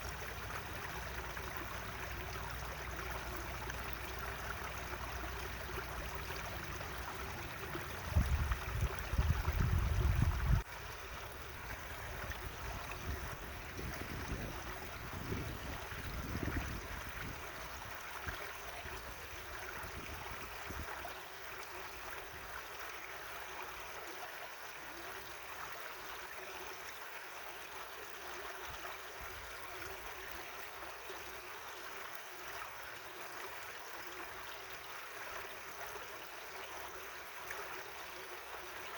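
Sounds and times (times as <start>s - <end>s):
babbling stream: 0.0s - 38.9s.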